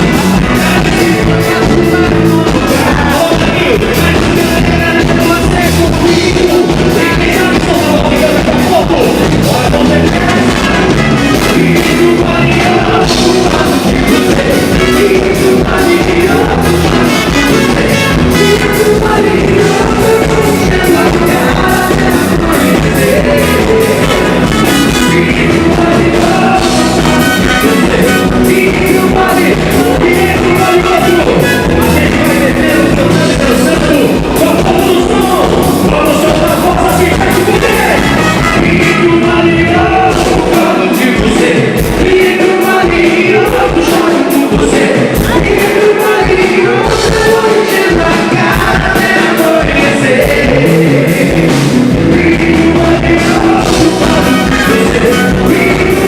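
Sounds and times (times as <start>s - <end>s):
live band dance music: 0.0s - 56.0s
person singing: 0.0s - 56.0s.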